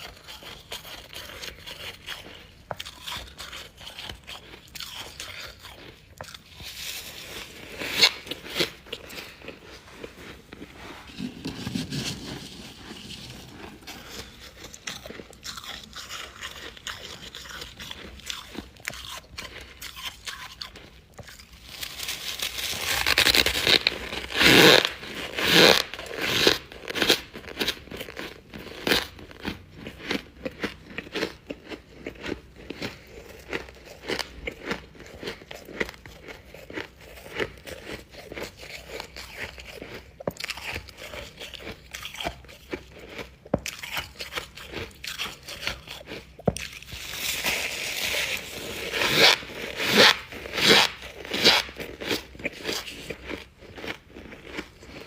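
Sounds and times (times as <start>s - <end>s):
crunching and chewing frost: 0.0s - 55.0s.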